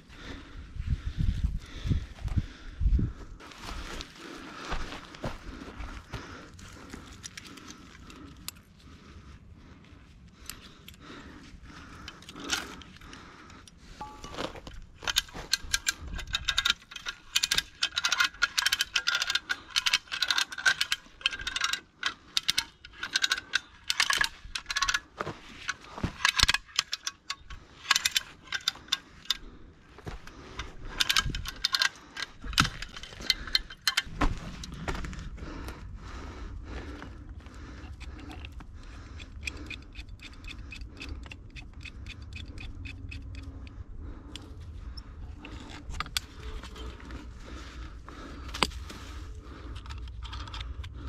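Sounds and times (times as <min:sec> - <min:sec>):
metal rigging clinking and rattling: 0:05.0 - 0:09.0, 0:10.3 - 0:51.0.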